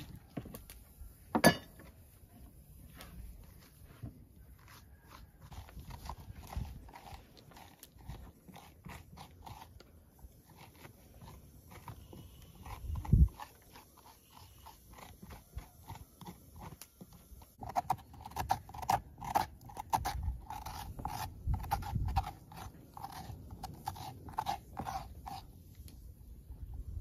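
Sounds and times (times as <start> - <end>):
knife scraping pumpkin flesh: 1.8 - 27.0.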